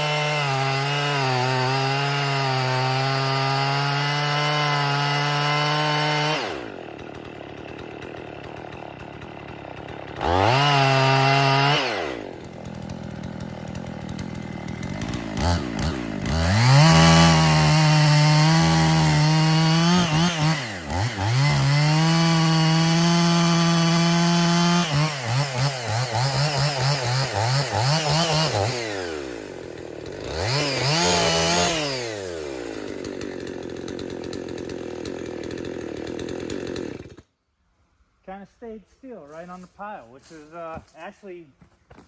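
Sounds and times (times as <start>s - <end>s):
chainsaw cutting log: 0.0s - 37.3s, 39.3s - 41.1s
chainsaw idling: 0.0s - 37.3s.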